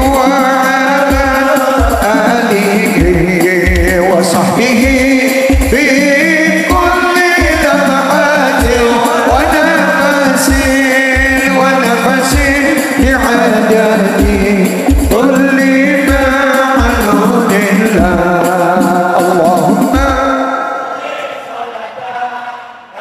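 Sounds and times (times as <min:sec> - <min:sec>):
deep frame drum beats: 0:00.0 - 0:20.4
men singing: 0:00.0 - 0:23.0.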